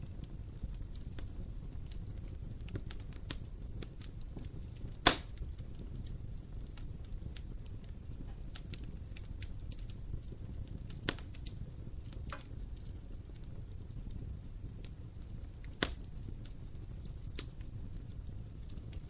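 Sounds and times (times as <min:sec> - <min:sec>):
fire pops: 0:00.0 - 0:19.0
wood fire crackling: 0:00.0 - 0:19.0.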